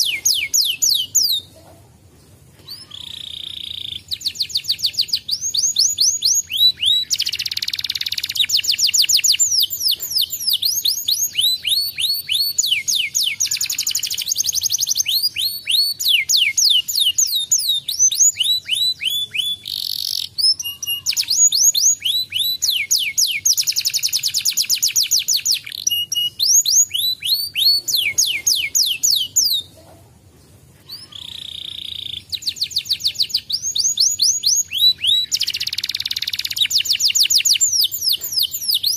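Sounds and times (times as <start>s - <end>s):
canary singing trills: 0.0s - 1.6s, 2.2s - 30.0s, 30.8s - 38.9s.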